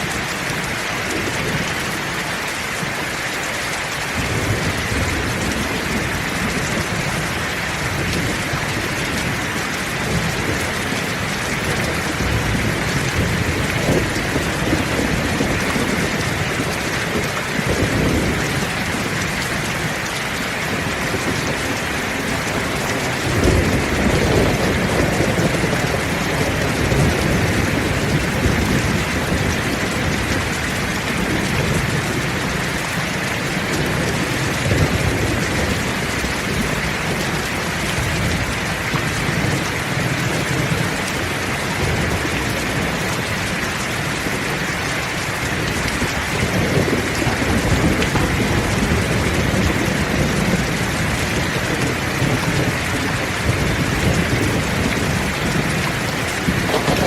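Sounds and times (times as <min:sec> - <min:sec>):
heavy rain pouring: 0:00.0 - 0:57.0
low thunder rumbling: 0:04.0 - 0:44.7, 0:45.5 - 0:57.0.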